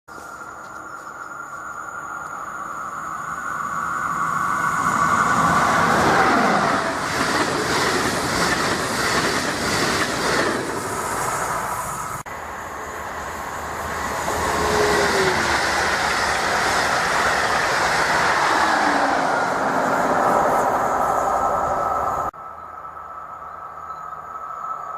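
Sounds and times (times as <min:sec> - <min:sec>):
train passing: 0:01.3 - 0:24.9.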